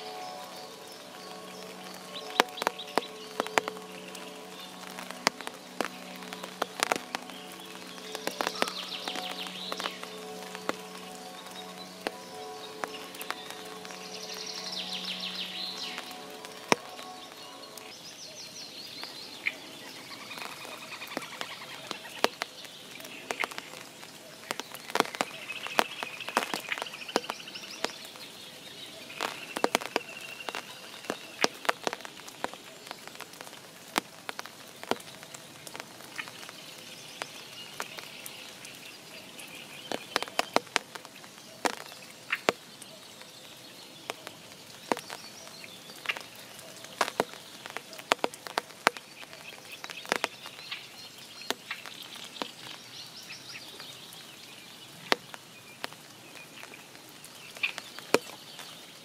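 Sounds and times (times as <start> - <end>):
raindrops dripping and pattering: 0.0 - 59.0
steady rain hiss: 0.0 - 59.0.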